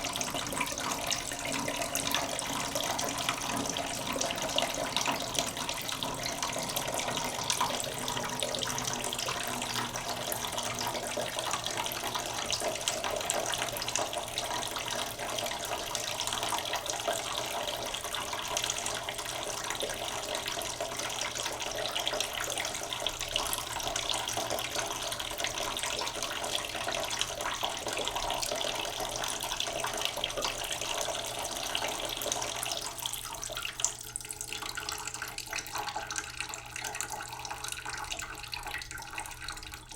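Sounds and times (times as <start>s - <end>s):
tap water pouring into pot: 0.0s - 39.9s.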